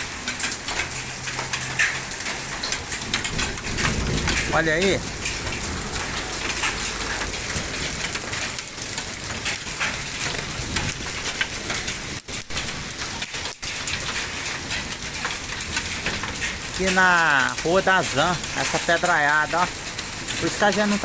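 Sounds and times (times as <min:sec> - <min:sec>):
hailstones striking surfaces: 0:00.0 - 0:21.0
heavy rain hiss: 0:00.0 - 0:21.0.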